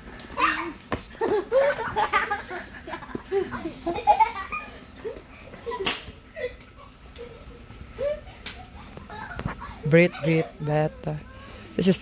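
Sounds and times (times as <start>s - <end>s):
children laughing and giggling: 0.2s - 11.8s.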